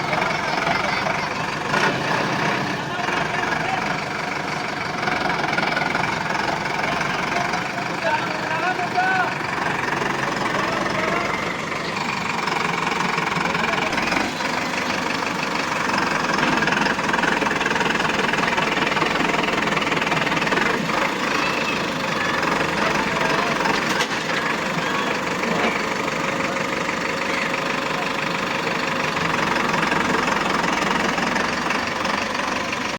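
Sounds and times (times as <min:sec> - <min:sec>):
tractor diesel engine knocking: 0:00.0 - 0:32.9.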